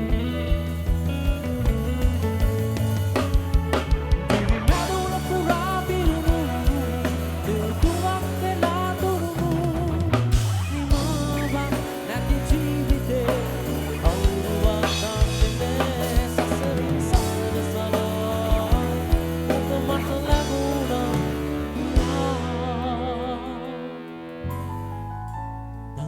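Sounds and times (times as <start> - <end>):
drum kit beat: 0.0 - 23.0
held bass notes: 0.0 - 26.0
wavering lead melody: 0.0 - 26.0.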